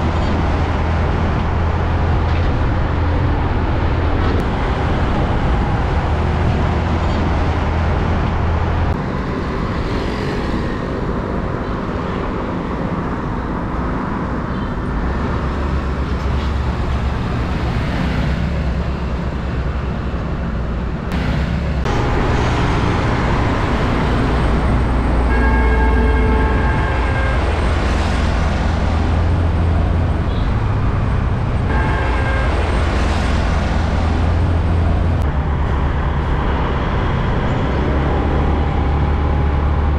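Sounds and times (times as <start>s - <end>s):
motorbikes and cars passing: 0.0s - 39.9s
trucks passing: 0.0s - 39.9s.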